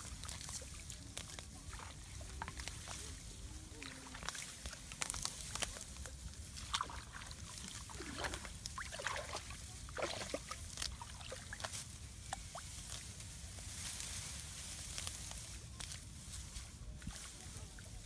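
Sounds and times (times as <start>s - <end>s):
water splashing and sloshing: 0.0s - 15.2s.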